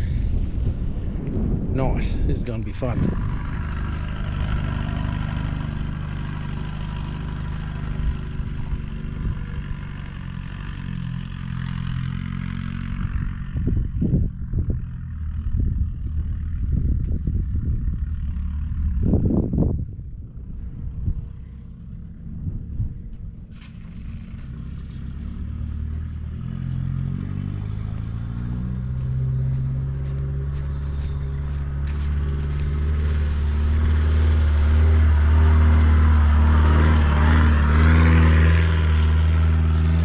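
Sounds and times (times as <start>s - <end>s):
vehicle engine rumbling: 0.0s - 40.0s
wind and tyres hissing: 0.0s - 40.0s.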